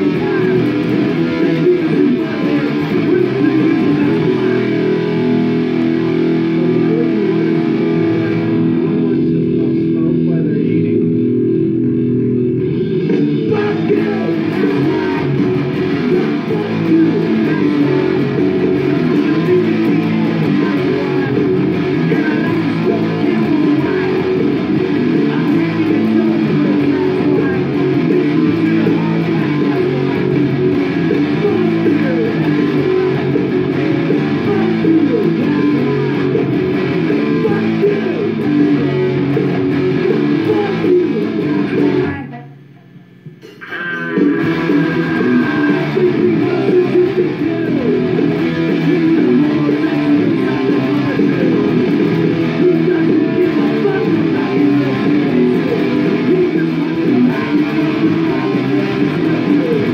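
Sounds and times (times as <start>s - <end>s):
electric guitar punk riff: 0.0s - 59.9s.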